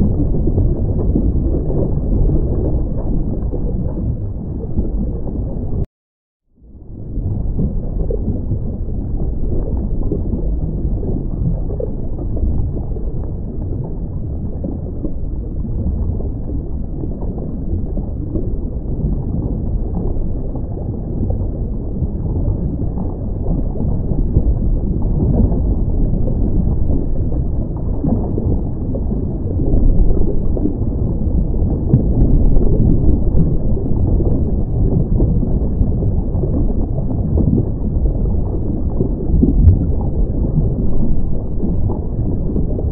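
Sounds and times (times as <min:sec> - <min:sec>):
gurgle of exhaled bubbles: 0:00.0 - 0:05.9, 0:06.6 - 0:42.9
muffled underwater rumble: 0:00.0 - 0:05.9, 0:06.5 - 0:42.9.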